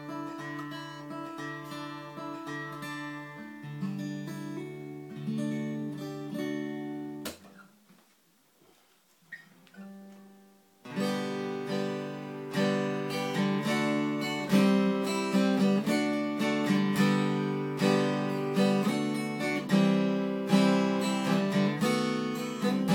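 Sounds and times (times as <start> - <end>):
acoustic guitar chords picked: 0.0 - 7.6, 9.8 - 22.9
strummed acoustic guitar chords: 0.0 - 7.6, 10.8 - 22.9.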